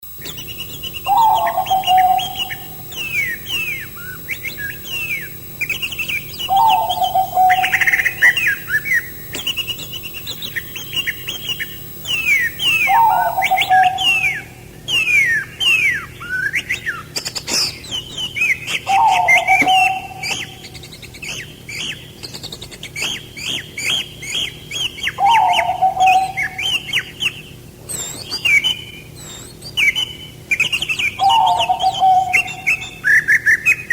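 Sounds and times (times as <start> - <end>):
songbirds chirping: 0.2 - 33.9.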